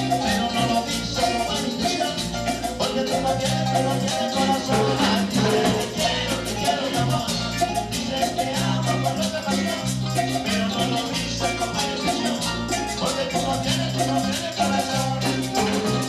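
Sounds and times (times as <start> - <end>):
latin dance band music: 0.0 - 16.0
repeating bass line: 0.0 - 16.0
shaker and percussion beat: 0.0 - 16.0.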